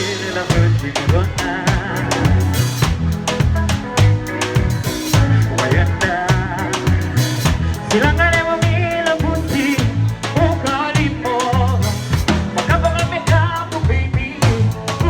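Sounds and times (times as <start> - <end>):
bass line: 0.0 - 15.0
drum kit beat: 0.0 - 15.0
live band playing: 0.0 - 15.0.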